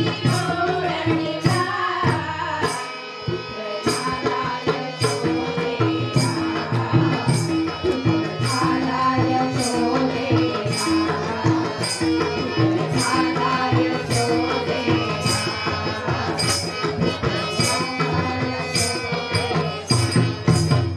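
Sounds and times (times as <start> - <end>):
hand drum: 3.9 - 20.9.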